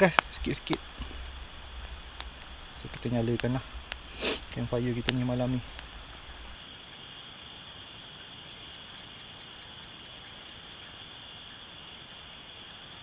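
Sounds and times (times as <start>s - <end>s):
crickets chirping chorus: 0.0s - 13.0s.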